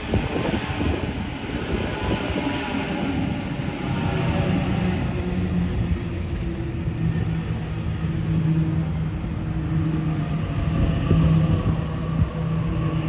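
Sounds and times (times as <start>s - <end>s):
electric train hum: 0.0s - 13.0s
wheels rumbling on rail: 0.0s - 13.0s.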